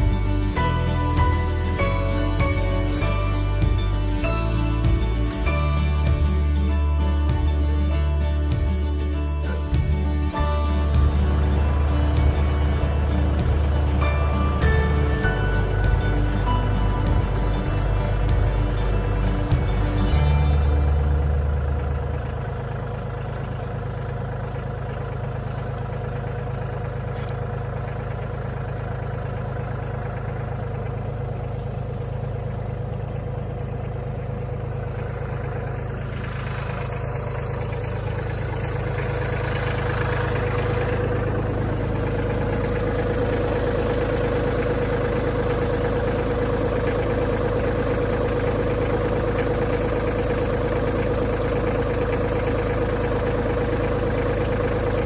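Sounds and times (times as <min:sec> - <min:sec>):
diesel engine running: 0:00.0 - 0:55.0
steady whine: 0:00.0 - 0:55.0.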